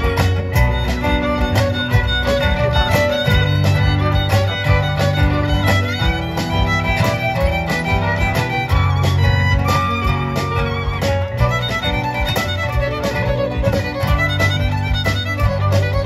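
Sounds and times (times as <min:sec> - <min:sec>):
acoustic guitar: 0:00.0 - 0:16.0
fiddle melody: 0:00.0 - 0:16.0
upright bass: 0:00.0 - 0:16.0.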